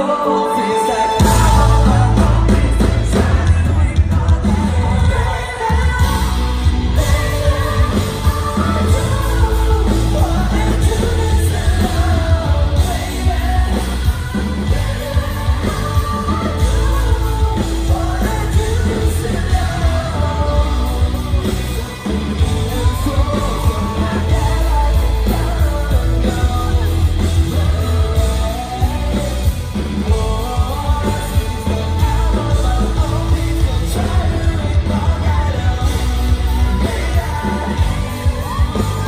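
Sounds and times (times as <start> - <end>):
lead singer: 0.0 - 39.0
rock band playing live: 0.0 - 39.0
heavy bass line: 1.2 - 39.0.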